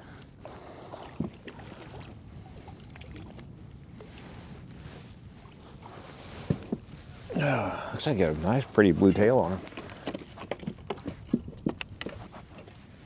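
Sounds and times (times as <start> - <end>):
water around a kayak: 0.0 - 13.0
wind: 0.0 - 13.0.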